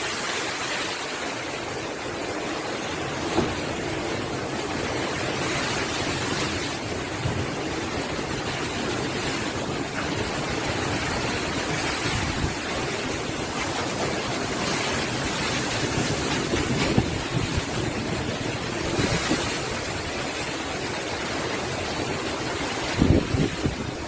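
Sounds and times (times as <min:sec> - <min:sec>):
strong wind with rain: 0:00.0 - 0:24.0.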